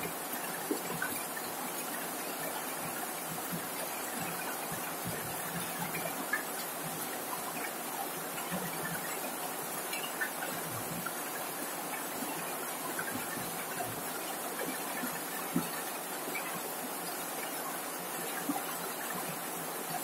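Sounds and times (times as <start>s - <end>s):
rain on a metal roof: 0.0s - 20.0s.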